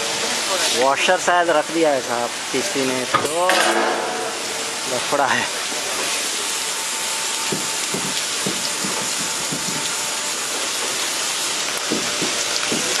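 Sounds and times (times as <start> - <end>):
water spraying hiss: 0.0 - 13.0.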